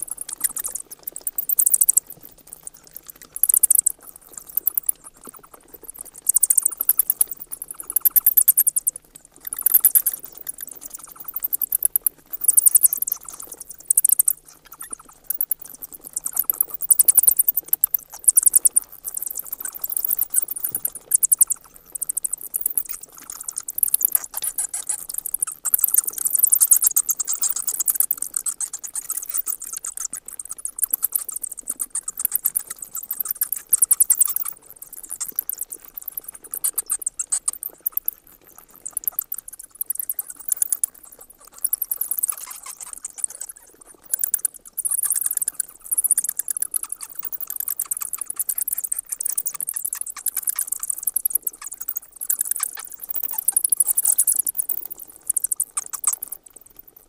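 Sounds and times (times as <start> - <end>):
bats chittering: 0.0 - 2.1, 3.0 - 57.0.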